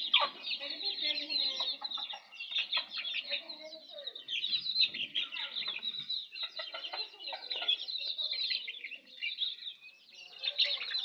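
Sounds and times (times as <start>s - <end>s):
baby chicks peeping: 0.0s - 11.0s
hen clucks: 0.0s - 11.0s.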